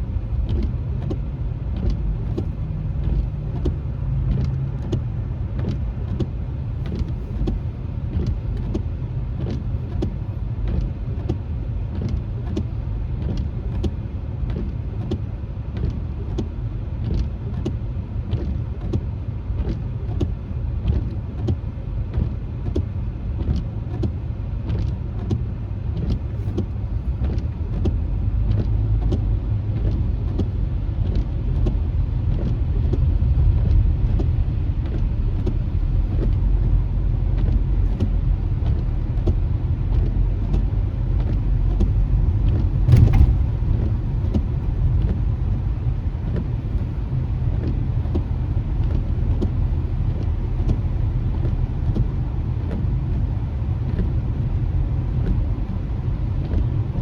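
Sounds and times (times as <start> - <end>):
car tyres and engine rumbling: 0.0 - 57.0.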